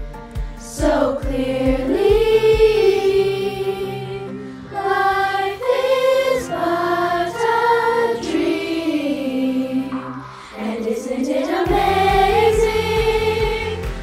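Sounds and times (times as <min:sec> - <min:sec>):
choir singing in harmony: 0:00.5 - 0:14.0.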